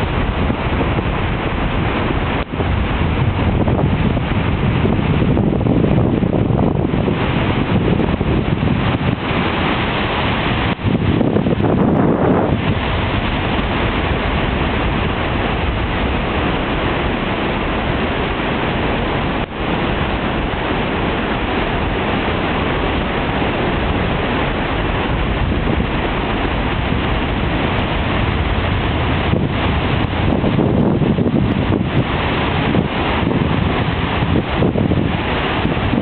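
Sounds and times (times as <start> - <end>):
surf breaking on beach: 0.0 - 36.0
wind rushing over microphone: 0.0 - 36.0.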